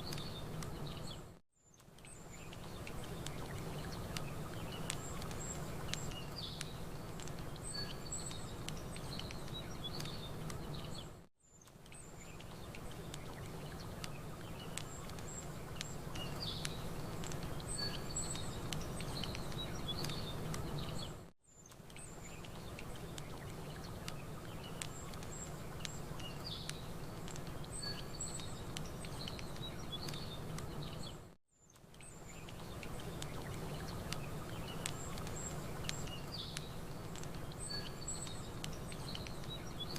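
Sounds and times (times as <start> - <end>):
small birds chirping: 0.0 - 39.9
wood fire crackling and popping: 1.8 - 11.0, 11.7 - 21.1, 21.7 - 31.2, 31.8 - 39.9.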